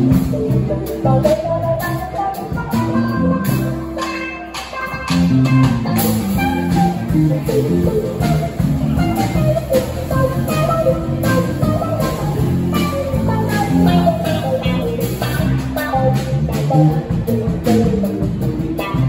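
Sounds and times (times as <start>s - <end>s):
live band playing instrumental: 0.0s - 19.0s.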